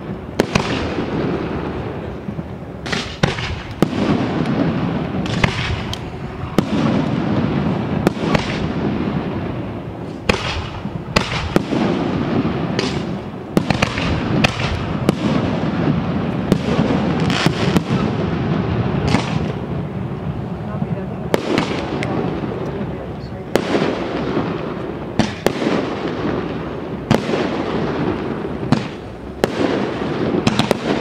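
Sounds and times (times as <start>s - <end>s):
firework shells bursting: 0.0s - 20.2s, 23.5s - 31.0s
firework crackling hiss: 0.0s - 31.0s.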